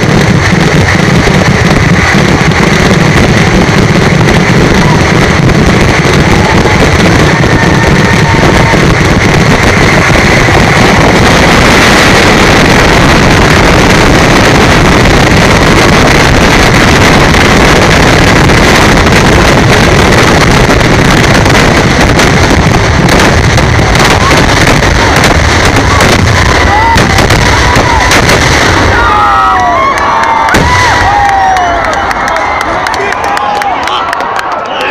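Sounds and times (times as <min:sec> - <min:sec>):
fireworks and firecrackers exploding: 0:00.0 - 0:34.9.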